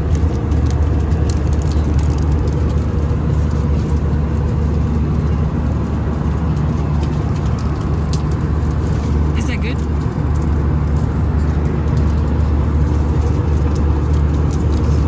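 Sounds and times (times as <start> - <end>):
airliner cabin engine rumble: 0.0 - 15.0
faint clicks and rustles: 0.0 - 15.0.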